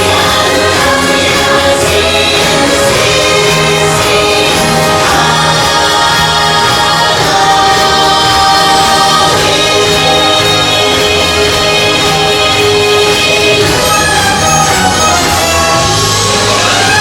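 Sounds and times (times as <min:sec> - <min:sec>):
choir singing: 0:00.0 - 0:17.0
parade music backing track: 0:00.0 - 0:17.0.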